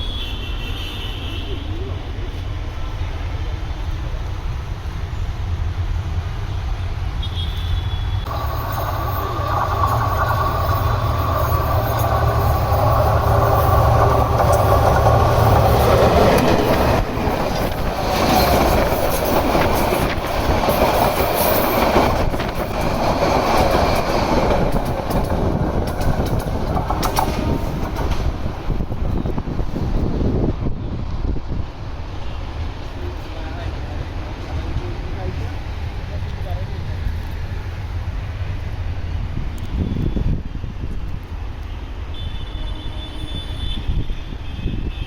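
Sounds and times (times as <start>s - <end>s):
train rumbling past: 1.3s - 45.0s.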